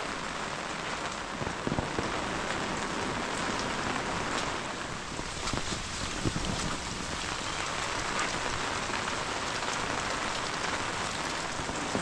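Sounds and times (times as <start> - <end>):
heavy rain falling: 0.0 - 12.0
raindrops ticking on surfaces: 0.0 - 12.0.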